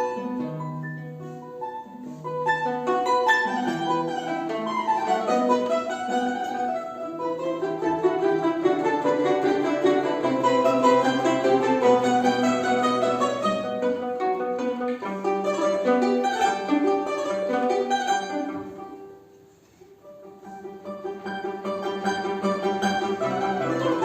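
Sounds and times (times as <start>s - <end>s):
plucked string music: 0.0s - 24.0s.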